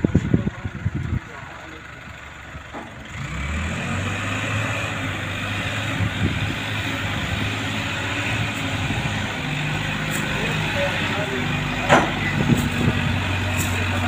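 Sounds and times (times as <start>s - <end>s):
engine starting and running: 0.0s - 14.0s.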